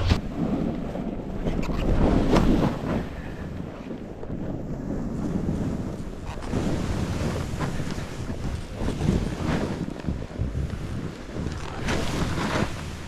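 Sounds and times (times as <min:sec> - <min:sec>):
snowboard scraping over snow: 0:00.0 - 0:13.0
wind on microphone: 0:00.0 - 0:13.0.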